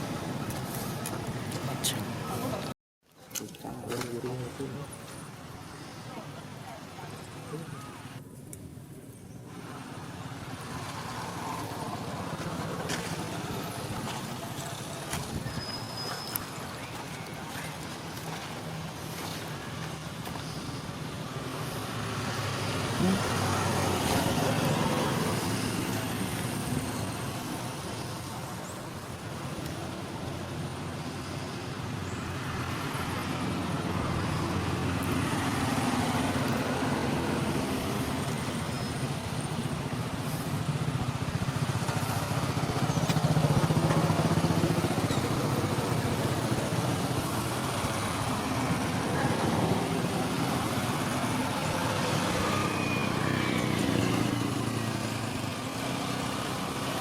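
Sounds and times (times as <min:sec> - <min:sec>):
traffic engines passing: 0:00.0 - 0:57.0.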